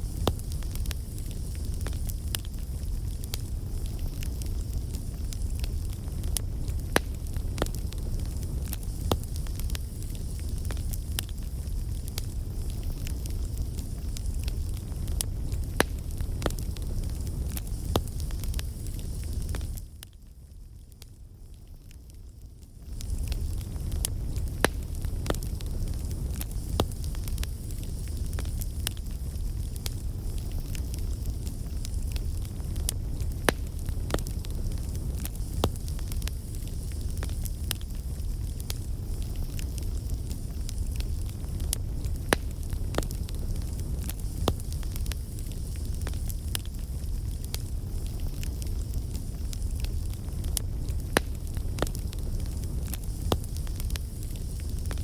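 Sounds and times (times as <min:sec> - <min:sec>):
fire crackling and popping: 0:00.0 - 0:55.0
low rumble of flames: 0:00.0 - 0:55.0.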